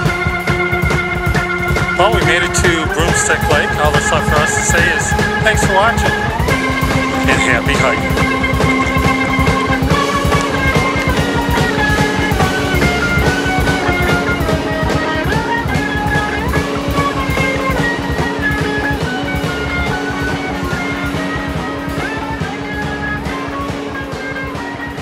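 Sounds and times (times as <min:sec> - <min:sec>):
electric guitar lines: 0:00.0 - 0:25.0
steady drum beat: 0:00.0 - 0:25.0.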